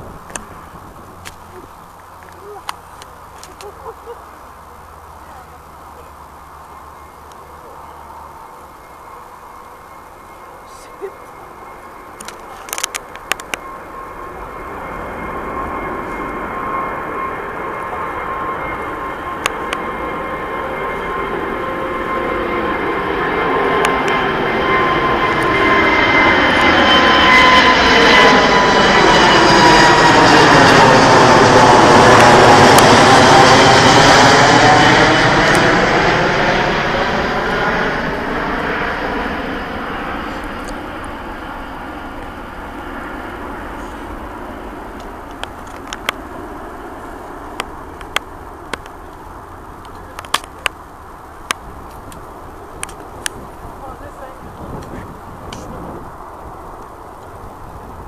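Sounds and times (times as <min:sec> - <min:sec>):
jet engine roar with whine: 0:00.0 - 0:58.0.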